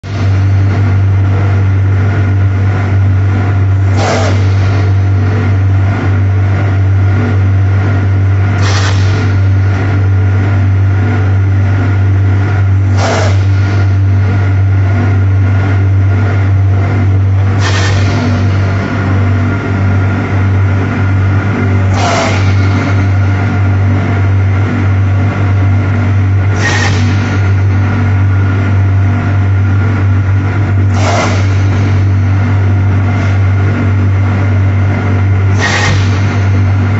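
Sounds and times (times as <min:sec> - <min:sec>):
machine humming: 0:00.0 - 0:36.9.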